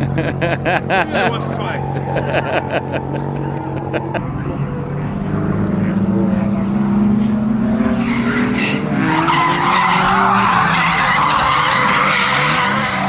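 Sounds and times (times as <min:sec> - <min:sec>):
car engine at high revs: 0:02.0 - 0:13.0.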